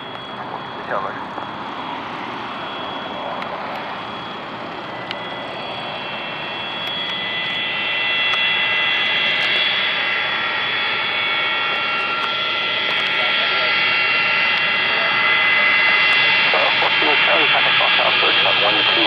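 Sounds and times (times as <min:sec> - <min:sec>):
jet engines rushing with high whine: 0:00.0 - 0:19.0.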